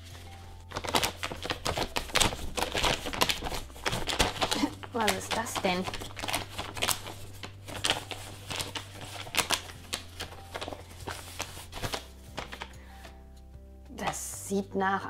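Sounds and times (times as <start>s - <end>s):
paper rustling and crackling: 0.0s - 13.1s.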